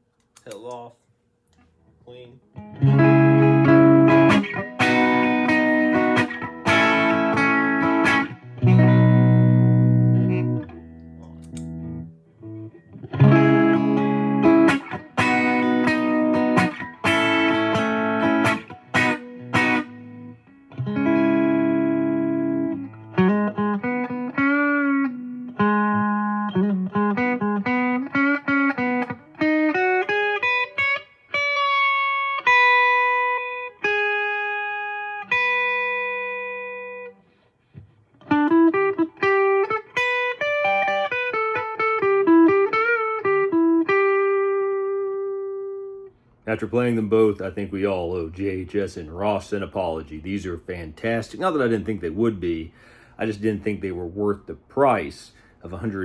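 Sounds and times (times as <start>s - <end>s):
clean electric guitar: 2.4s - 49.6s.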